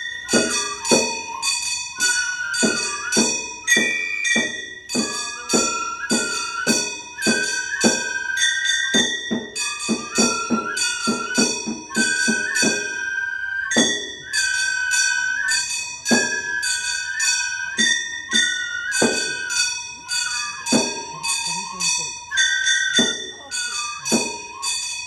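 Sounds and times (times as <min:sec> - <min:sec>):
small brass hand gongs ringing: 0:00.0 - 0:12.9, 0:13.7 - 0:25.0
bamboo flute: 0:00.0 - 0:25.0.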